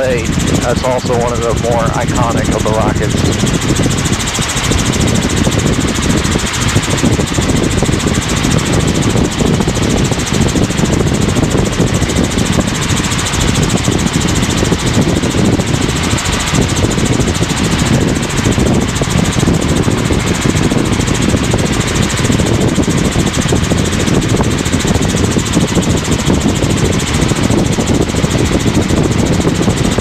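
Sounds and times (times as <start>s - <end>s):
helicopter rotor and engine noise: 0.0s - 30.0s.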